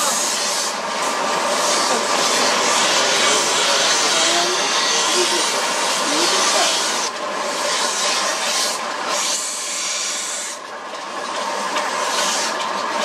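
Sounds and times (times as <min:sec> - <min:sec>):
blade grinding on grinding wheel: 0:00.0 - 0:10.6, 0:12.0 - 0:12.7.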